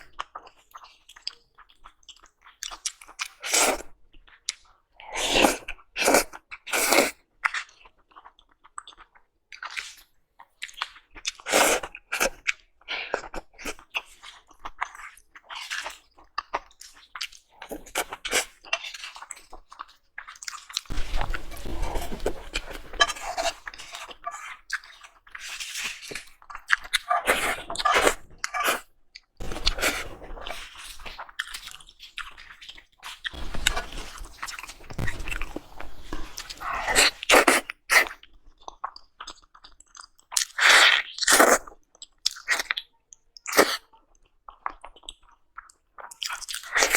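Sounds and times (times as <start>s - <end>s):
person chewing crunchy food: 0.3s - 4.6s, 10.6s - 42.8s, 43.4s - 46.9s.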